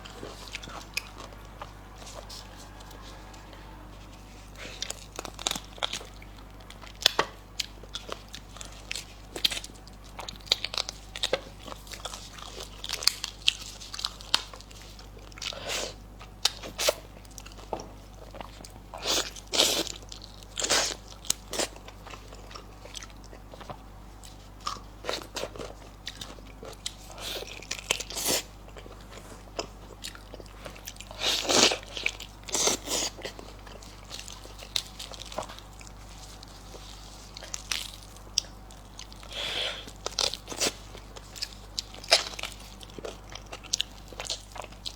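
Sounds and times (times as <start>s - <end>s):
person chewing and gnawing: 0.0s - 44.9s.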